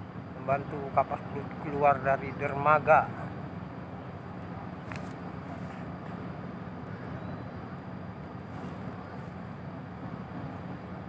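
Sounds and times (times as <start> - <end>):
ship engines humming: 0.0 - 11.0.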